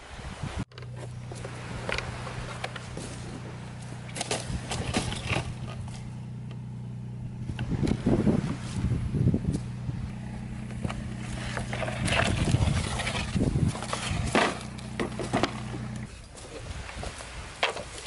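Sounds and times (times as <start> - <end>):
knocks and scrapes: 0.7 - 6.6, 7.5 - 18.0
engine running steadily: 0.7 - 18.0.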